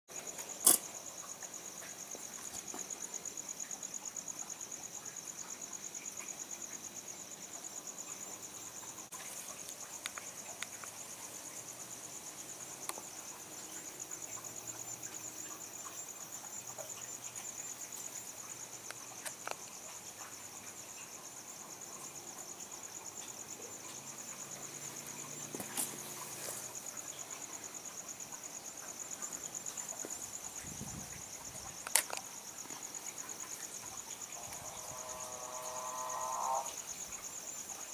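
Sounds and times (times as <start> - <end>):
crickets trilling: 0.1 - 37.9.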